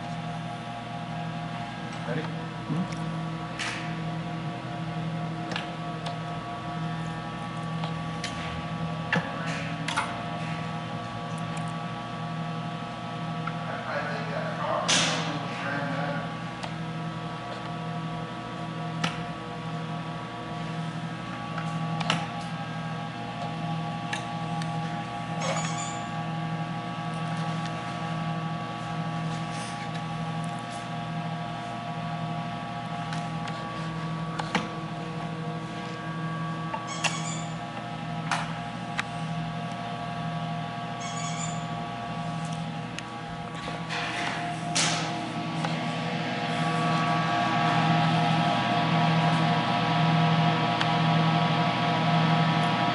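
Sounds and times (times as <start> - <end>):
electrical hum: 0.0 - 52.9.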